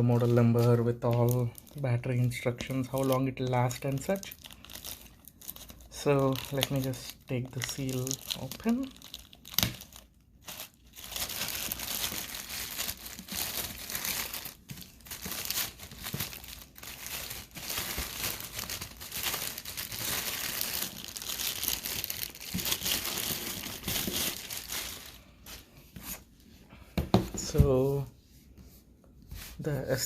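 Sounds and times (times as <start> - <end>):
plastic wrap crinkling and tearing: 0.0 - 26.2.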